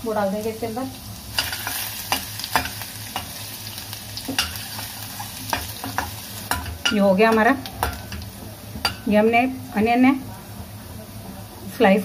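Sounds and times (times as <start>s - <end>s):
garlic and ginger sizzling in oil: 0.0s - 12.0s.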